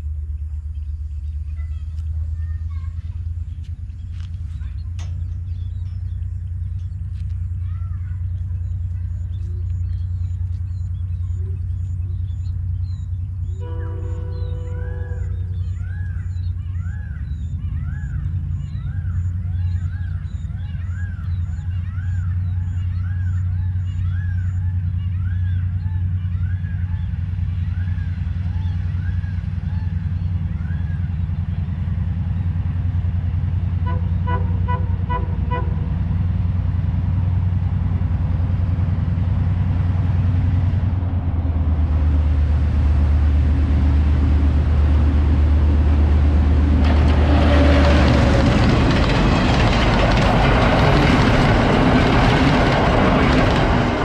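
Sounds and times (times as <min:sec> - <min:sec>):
diesel train engine drone: 0:00.0 - 0:54.0
train rattling over crossing: 0:00.0 - 0:54.0.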